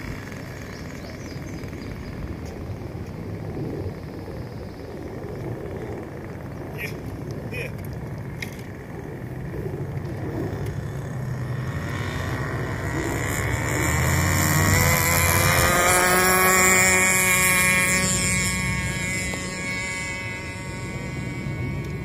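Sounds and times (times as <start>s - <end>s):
model airplane engine whine: 0.0s - 22.0s.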